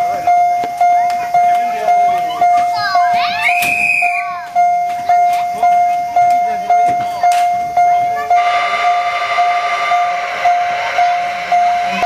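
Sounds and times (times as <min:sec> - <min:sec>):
level crossing warning bell: 0:00.0 - 0:03.5, 0:04.1 - 0:12.0.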